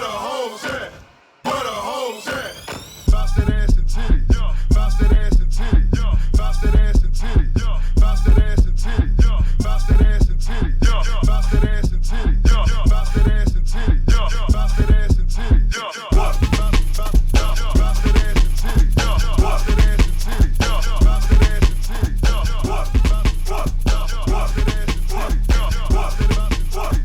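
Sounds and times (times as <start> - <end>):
rapping over a heavy bass beat: 3.1 - 27.0.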